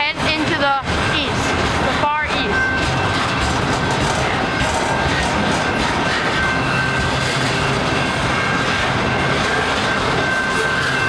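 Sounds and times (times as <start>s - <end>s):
train rumbling past: 0.0s - 11.0s
high-pitched rail squeal: 1.0s - 11.0s.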